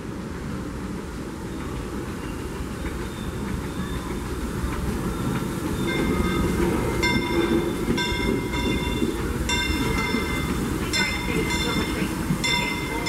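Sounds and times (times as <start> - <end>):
steam train rumbling past: 0.0 - 13.0.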